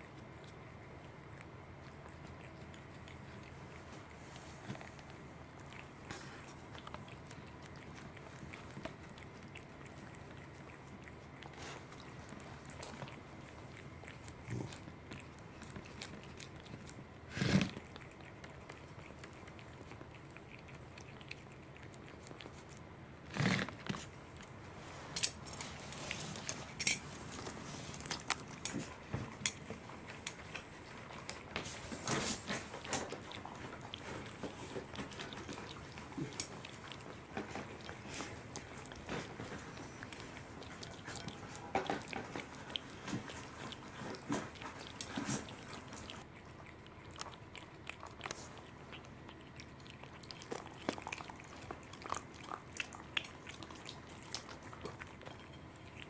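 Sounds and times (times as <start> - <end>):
cat chewing fish: 0.0 - 56.0.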